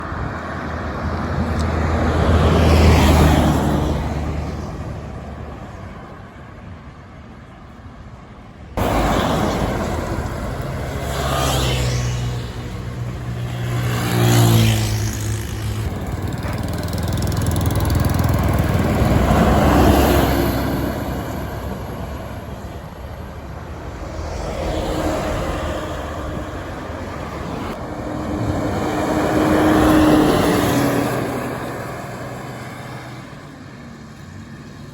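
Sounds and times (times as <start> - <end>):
buses passing by: 0.0 - 34.9.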